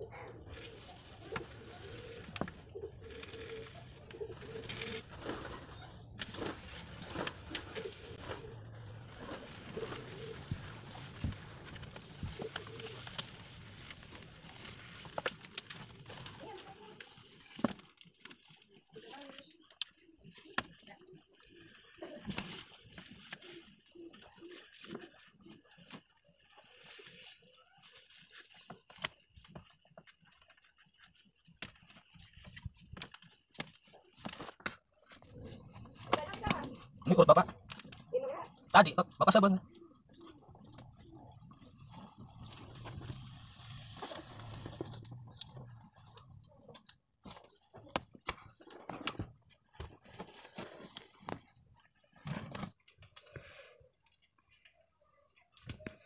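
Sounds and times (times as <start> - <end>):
plants rustling against phone: 0.0 - 56.0.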